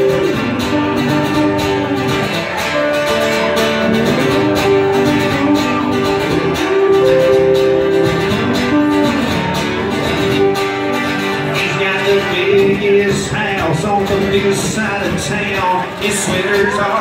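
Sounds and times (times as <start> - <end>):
acoustic guitars strumming: 0.0 - 17.0.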